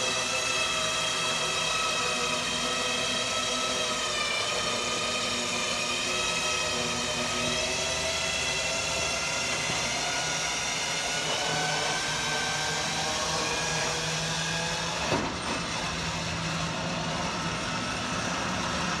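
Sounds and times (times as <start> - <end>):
powered lift whining hum: 0.0 - 19.0.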